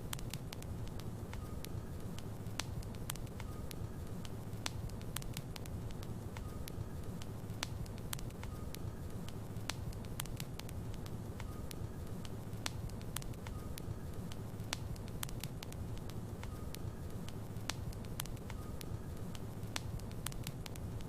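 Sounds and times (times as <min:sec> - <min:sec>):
fire crackles and pops: 0:00.0 - 0:21.0
flames rumbling: 0:00.0 - 0:21.0.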